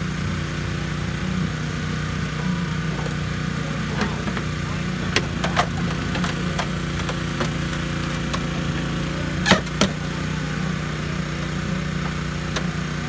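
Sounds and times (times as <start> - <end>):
small gasoline engine running: 0.0 - 13.0.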